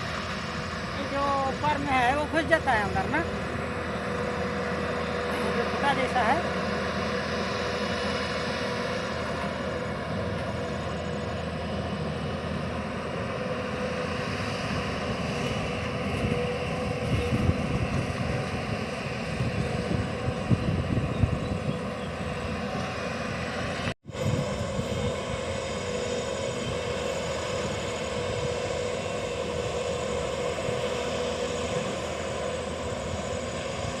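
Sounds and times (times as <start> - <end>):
excavator diesel engine humming: 0.0 - 34.0.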